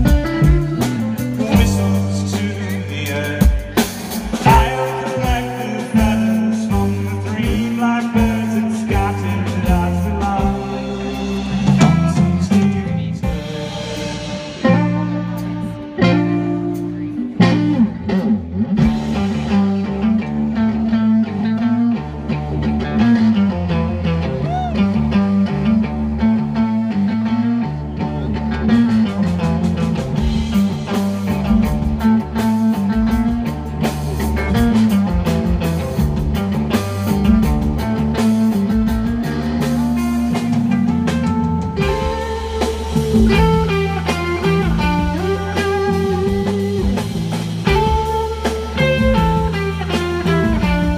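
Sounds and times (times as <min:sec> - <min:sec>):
drums and cymbals: 0:00.0 - 0:20.9, 0:28.7 - 0:50.9
bass line: 0:00.0 - 0:50.9
electric guitar riffing: 0:00.0 - 0:50.9.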